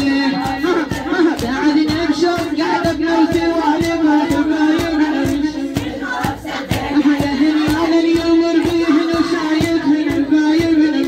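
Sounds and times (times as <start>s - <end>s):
woman chanting a lament: 0.0s - 11.0s.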